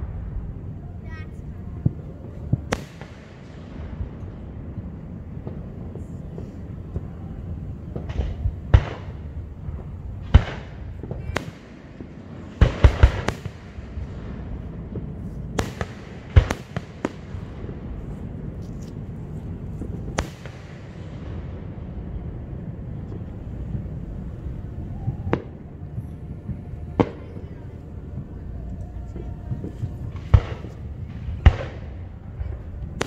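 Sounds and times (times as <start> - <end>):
fireworks booming: 0.0 - 33.0
fireworks crackling: 0.0 - 33.0.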